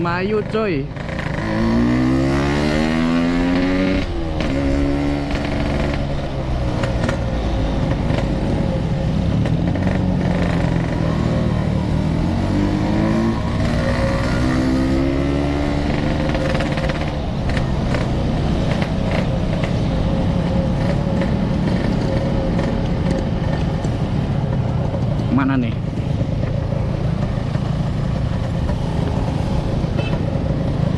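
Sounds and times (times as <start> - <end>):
motorcycle accelerating: 0.0 - 30.9.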